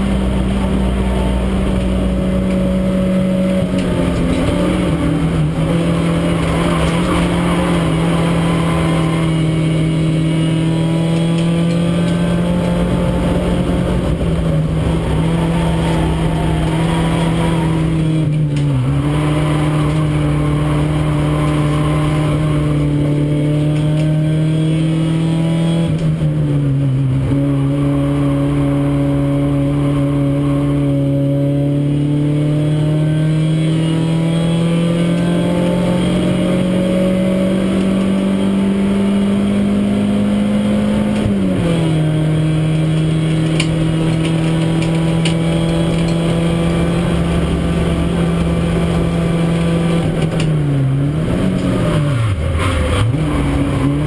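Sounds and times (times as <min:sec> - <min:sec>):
race car engine running hard: 0:00.0 - 0:54.0
wind and road noise: 0:00.0 - 0:54.0.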